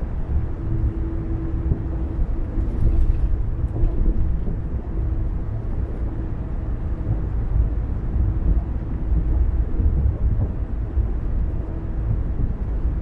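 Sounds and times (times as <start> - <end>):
car road and engine rumble: 0.0 - 13.0
faint steady hum: 0.0 - 13.0.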